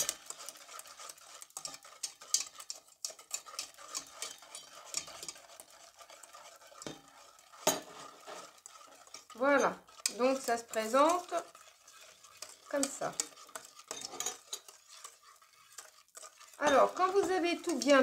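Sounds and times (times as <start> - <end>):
whisk clinking on pot: 0.0 - 18.0
whisk scraping a metal pot: 0.0 - 18.0.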